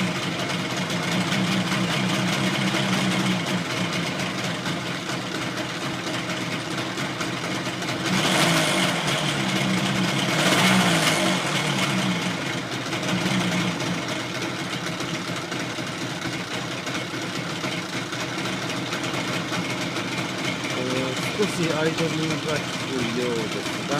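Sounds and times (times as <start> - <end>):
two-stroke engine idling: 0.0 - 23.9.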